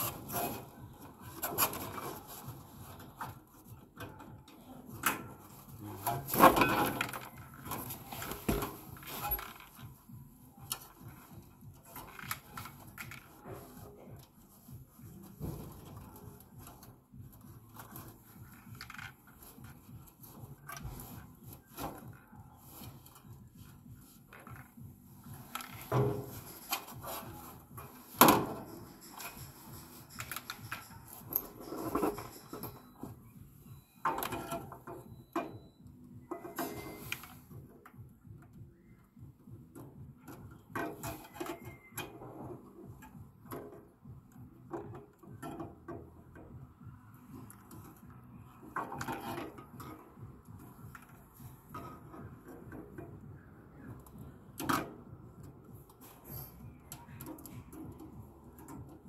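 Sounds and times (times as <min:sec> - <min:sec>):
gloved hands handling parts: 0:00.0 - 0:59.0.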